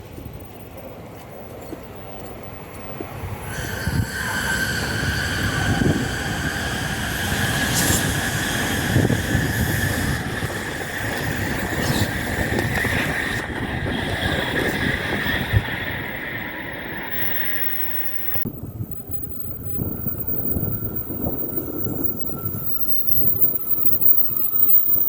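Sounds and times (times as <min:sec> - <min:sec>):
high-speed train roaring past: 0:00.0 - 0:22.6
train high whine: 0:00.0 - 0:25.0.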